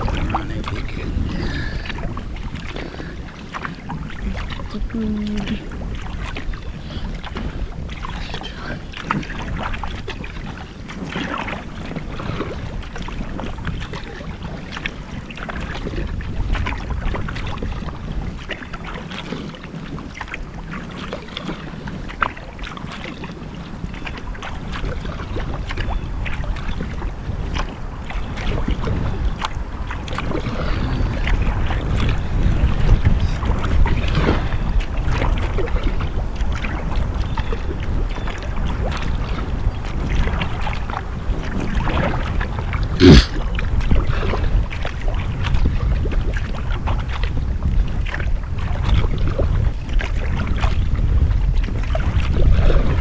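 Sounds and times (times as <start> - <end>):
paddle splashes and drips: 0.0 - 53.0
wind rumble on microphone: 0.0 - 53.0.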